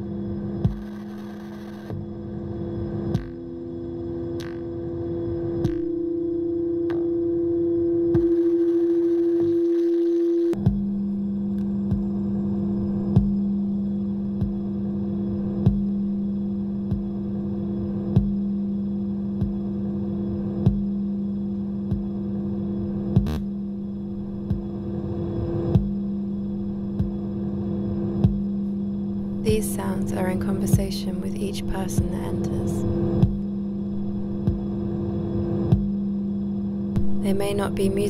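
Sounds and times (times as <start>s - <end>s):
low hum of held tones: 0.0s - 38.0s.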